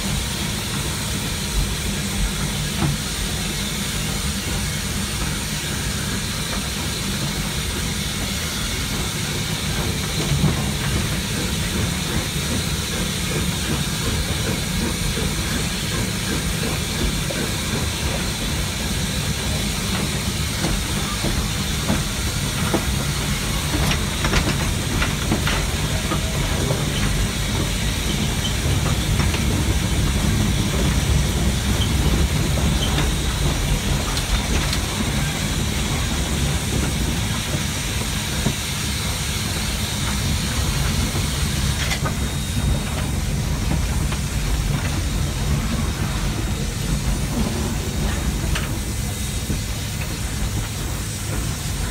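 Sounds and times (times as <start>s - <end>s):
locomotive low rumble: 0.0s - 51.9s
steam hissing: 0.0s - 51.9s.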